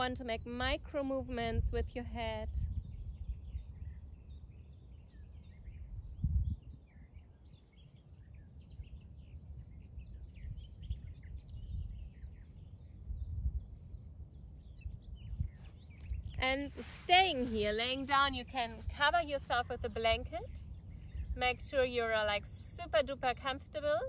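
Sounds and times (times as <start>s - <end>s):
wind rumble on microphone: 0.0s - 24.0s
small birds chirping: 2.4s - 23.9s.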